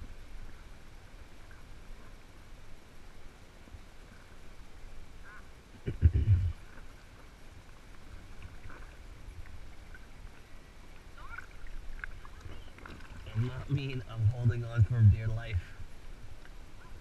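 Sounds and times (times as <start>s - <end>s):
water lapping around kayak: 0.0s - 17.0s.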